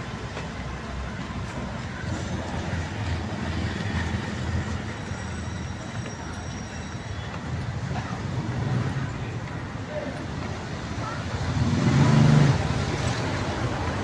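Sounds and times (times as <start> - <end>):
street ambience low rumble: 0.0 - 14.0.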